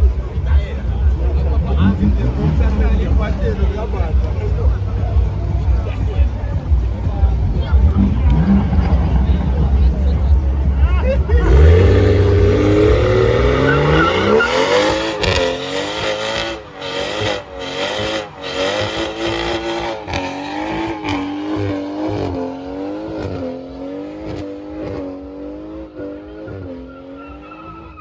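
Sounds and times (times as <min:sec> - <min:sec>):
car engine revving hard: 0:00.1 - 0:28.0.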